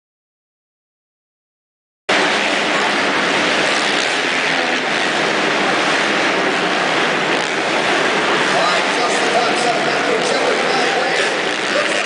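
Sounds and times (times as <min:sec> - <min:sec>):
motocross bike rushing: 0:02.1 - 0:12.0.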